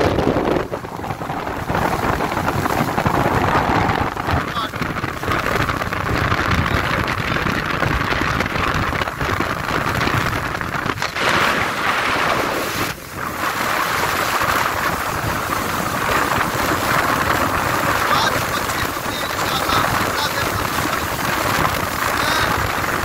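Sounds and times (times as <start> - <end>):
water splashing along boat hull: 0.0 - 23.0
wind rushing over microphone: 0.0 - 23.0.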